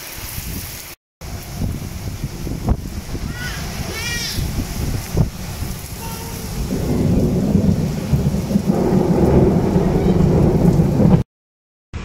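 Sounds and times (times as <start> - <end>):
heavy rain: 0.0 - 11.3
low rumble of thunder: 1.2 - 11.2.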